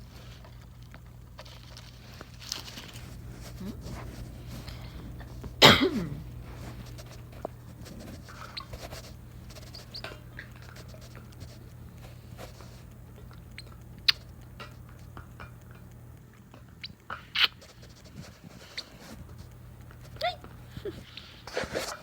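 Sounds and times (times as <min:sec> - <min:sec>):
small clicks and scratches: 0:00.0 - 0:05.6, 0:06.2 - 0:22.0
low steady hum: 0:00.0 - 0:22.0
parrot gnawing at a toy: 0:00.0 - 0:22.0.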